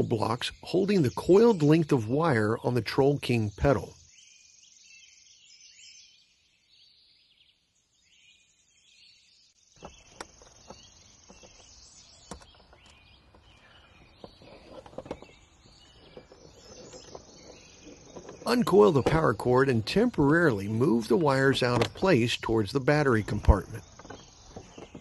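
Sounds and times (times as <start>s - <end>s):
insects: 0.0s - 7.2s, 7.9s - 25.0s
faint bird chirps: 0.0s - 25.0s.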